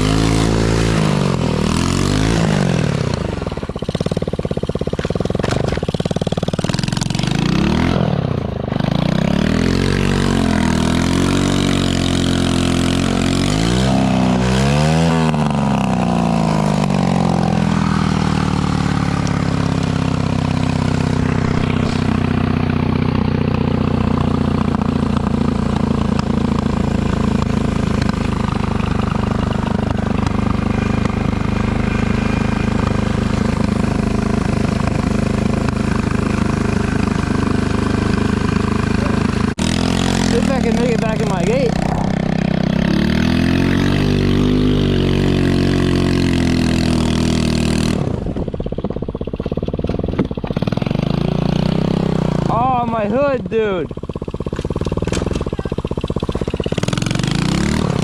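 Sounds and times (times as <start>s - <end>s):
small engine revving: 0.0s - 58.0s.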